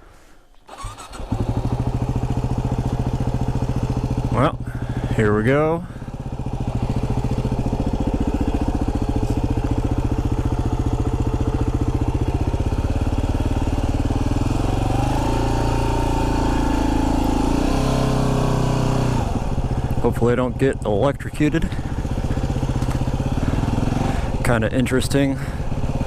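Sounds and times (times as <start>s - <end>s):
motorcycle engine running: 0.7s - 26.0s.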